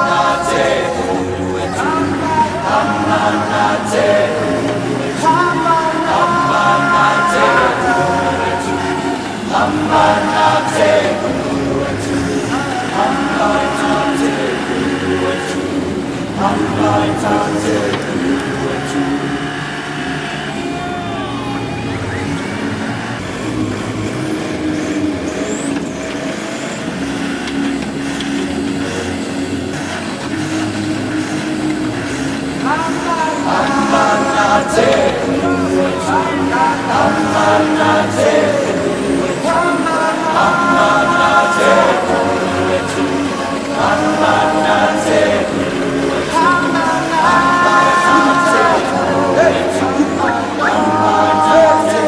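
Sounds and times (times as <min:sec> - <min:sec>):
group of voices singing: 0:00.0 - 0:52.0
vehicle engine running: 0:00.0 - 0:52.0.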